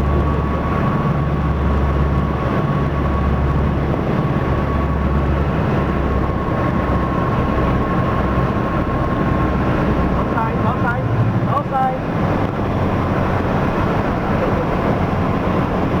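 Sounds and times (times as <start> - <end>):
aircraft piston engines droning: 0.0 - 16.0.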